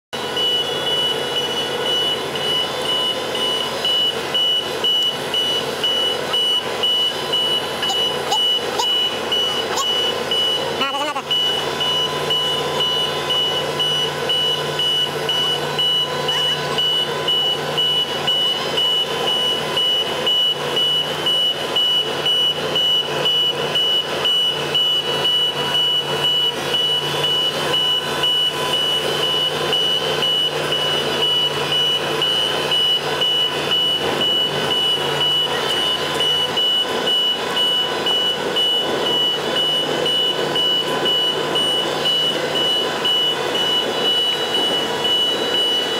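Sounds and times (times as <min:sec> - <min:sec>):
hoist engine humming: 0:00.1 - 0:45.9
high-pitched warning alarm tone: 0:00.2 - 0:45.9.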